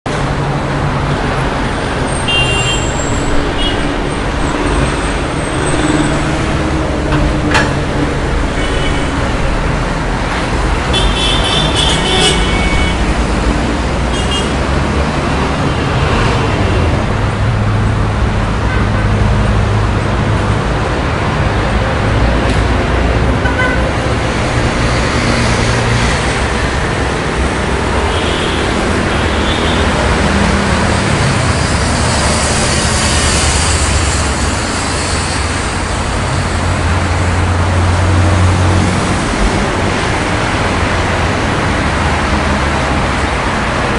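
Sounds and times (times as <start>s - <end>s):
traffic passing: 0.1s - 43.9s.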